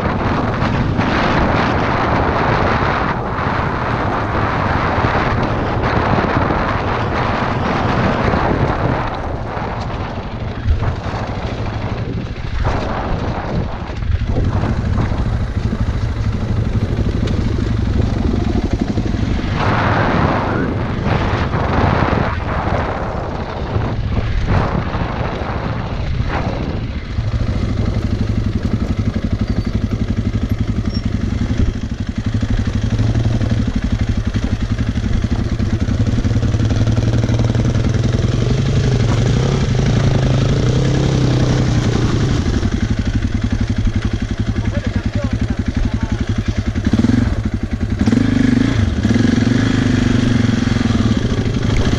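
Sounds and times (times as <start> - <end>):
off-road motorcycle engine: 0.0 - 51.9.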